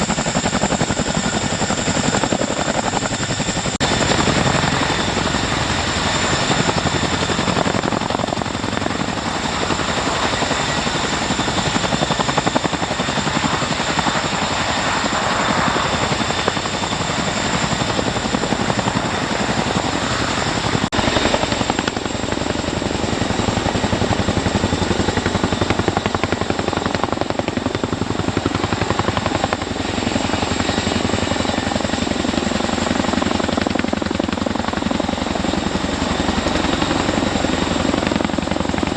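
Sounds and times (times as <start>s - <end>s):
helicopter rotor chop: 0.0s - 38.9s
high turbine whine: 0.0s - 38.9s.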